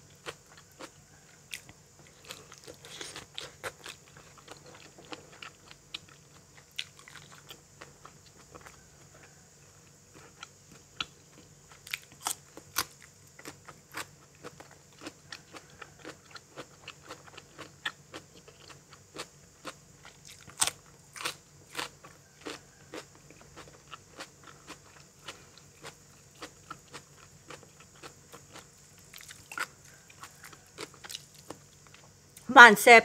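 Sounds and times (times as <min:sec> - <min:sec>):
person chewing crunchy food: 0:00.0 - 0:32.4.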